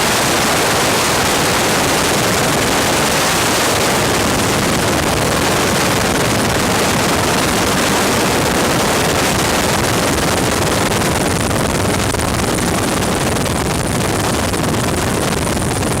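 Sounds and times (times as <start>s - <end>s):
helicopter flying: 0.0s - 16.0s
wind on microphone: 0.0s - 16.0s.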